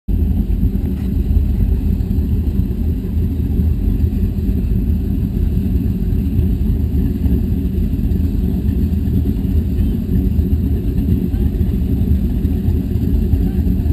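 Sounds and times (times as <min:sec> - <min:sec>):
boat engines idling: 0:00.1 - 0:13.9.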